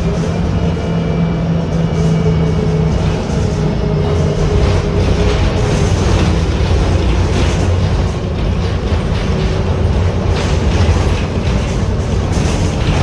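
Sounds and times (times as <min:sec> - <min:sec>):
bus cabin rattling: 0:00.0 - 0:13.0
bus engine and road rumble: 0:00.0 - 0:13.0.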